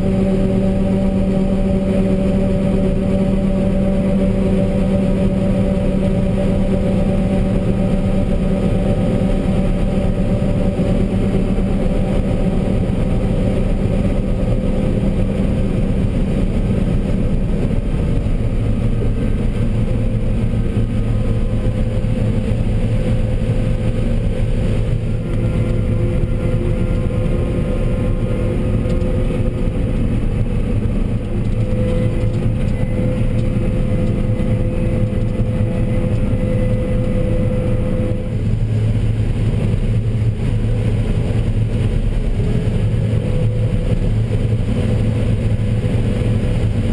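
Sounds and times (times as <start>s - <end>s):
combine harvester engine drone: 0.0s - 46.9s.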